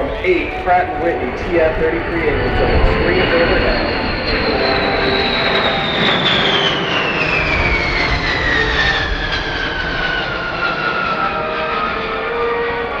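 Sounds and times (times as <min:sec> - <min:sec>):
jet aircraft passing overhead: 0:00.0 - 0:13.0.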